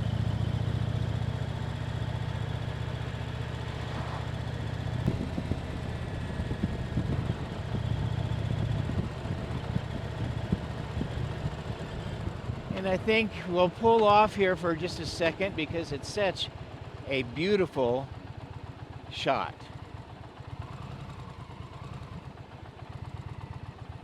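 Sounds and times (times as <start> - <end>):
motorcycle engine drone: 0.0 - 24.0.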